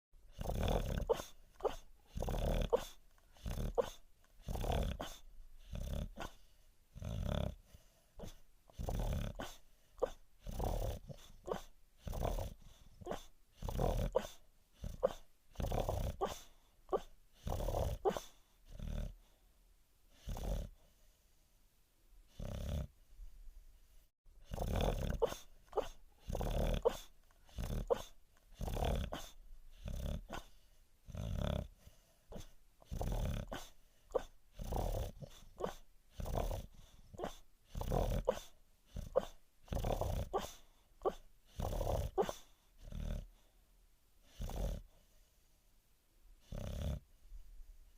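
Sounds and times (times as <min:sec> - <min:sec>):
dog snoring: 0:00.3 - 0:19.4, 0:20.1 - 0:21.1, 0:22.3 - 0:22.9, 0:24.4 - 0:43.5, 0:44.2 - 0:45.1, 0:46.4 - 0:47.1.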